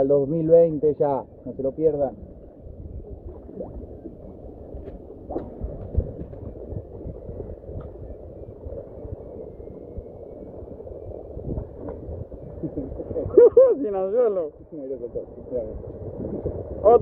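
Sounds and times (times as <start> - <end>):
sea water rumbling: 0.0 - 17.0
wind: 0.0 - 17.0.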